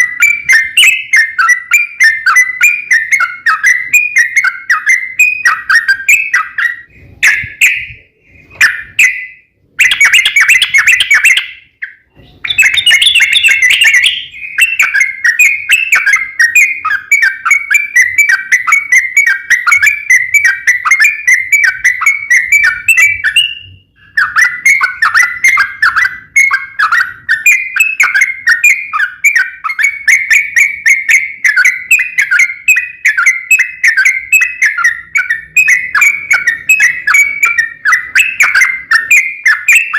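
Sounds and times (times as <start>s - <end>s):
bird singing chattering whistles: 0.0s - 39.9s.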